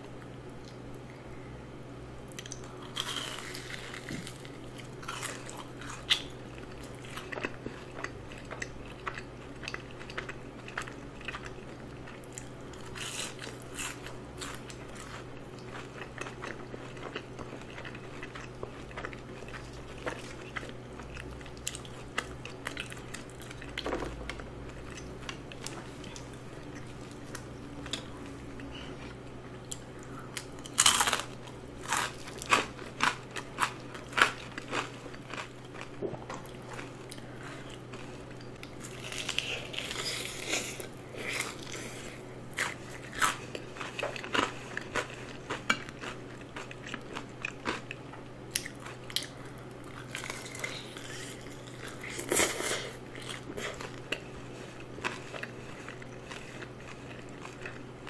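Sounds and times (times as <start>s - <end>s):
crunchy chewing: 2.3s - 58.0s.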